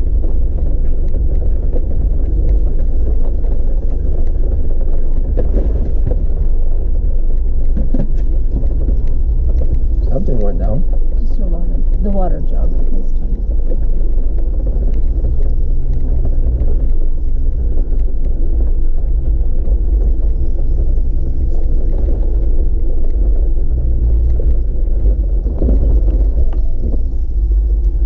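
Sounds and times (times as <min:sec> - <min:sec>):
engine low rumble: 0:00.0 - 0:28.0
stones clicking under tyres: 0:00.0 - 0:28.0.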